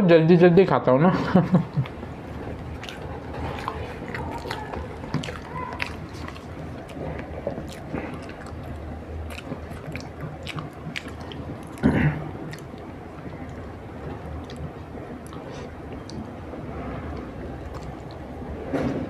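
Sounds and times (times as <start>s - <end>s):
person chewing soft food: 1.6s - 18.6s.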